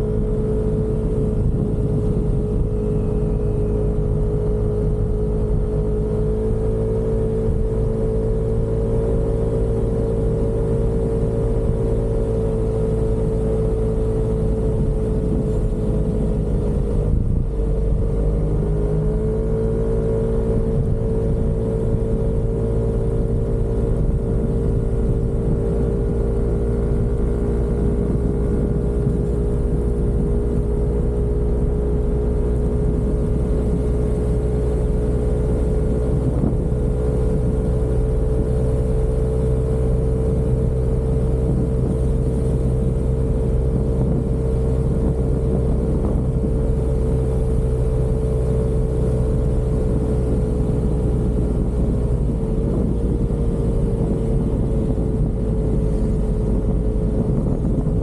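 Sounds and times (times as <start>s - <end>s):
scooter engine cruising: 0.0s - 58.0s.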